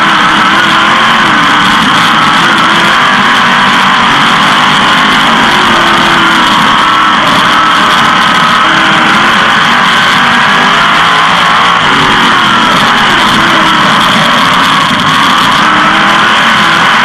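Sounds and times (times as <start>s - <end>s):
race car engine high revs: 0.0s - 17.0s.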